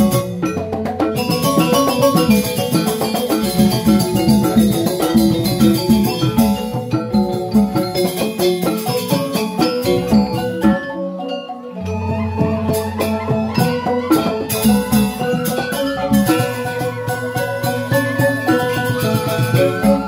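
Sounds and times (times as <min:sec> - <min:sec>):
drums: 0:00.0 - 0:11.0, 0:11.9 - 0:20.0
bamboo xylophones playing: 0:00.0 - 0:20.0.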